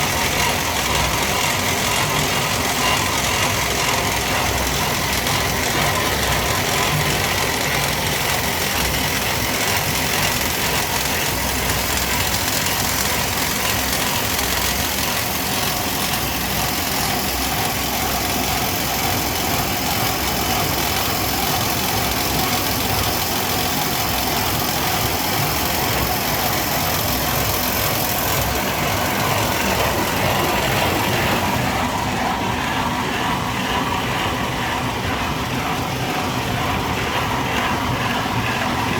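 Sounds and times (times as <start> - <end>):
machinery running: 0.0 - 38.9.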